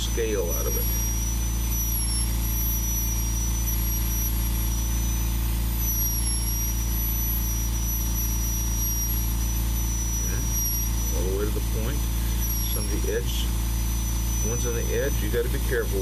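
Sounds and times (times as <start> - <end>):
rotary tool whining: 0.0 - 16.0.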